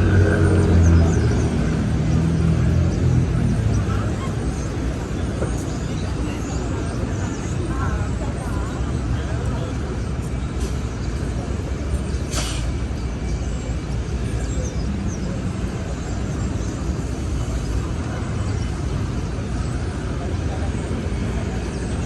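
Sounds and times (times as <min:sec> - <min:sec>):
passing vehicles rumble: 0:00.0 - 0:22.0.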